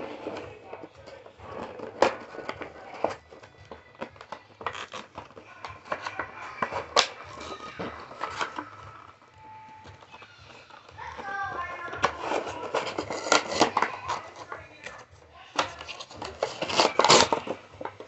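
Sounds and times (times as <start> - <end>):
packaging crinkling and snapping: 1.5 - 18.0.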